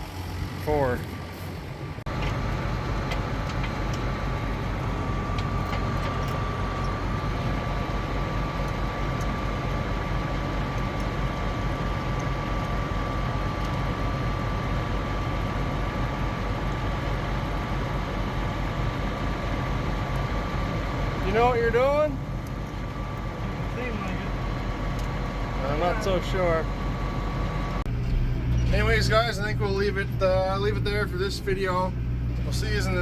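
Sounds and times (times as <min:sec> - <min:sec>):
silage machinery running: 0:00.0 - 0:33.0.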